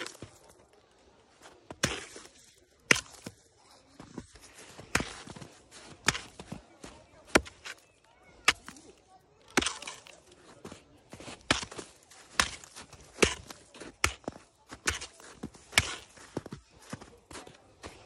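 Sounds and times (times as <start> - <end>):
footsteps crunching in snow: 0.0 - 18.0.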